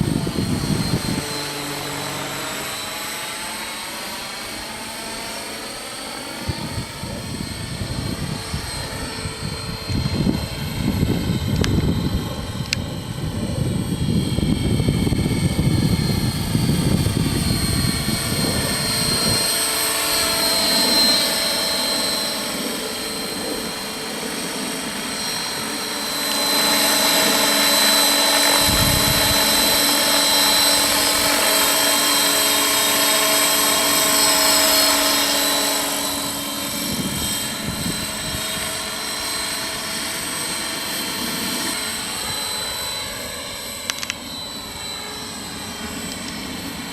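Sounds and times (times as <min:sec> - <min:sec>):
rc helicopter rotor and motor whine: 0:00.0 - 0:46.9.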